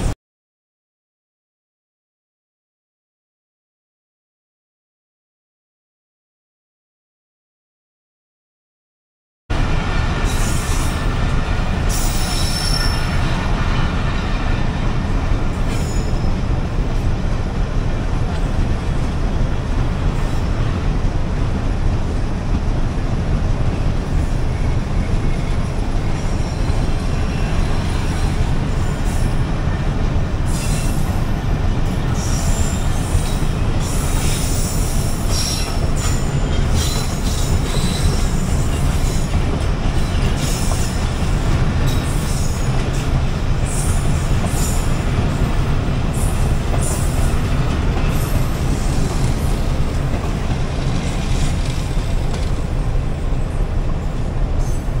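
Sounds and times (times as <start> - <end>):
train wheels rumbling on rail: 9.5 - 55.0.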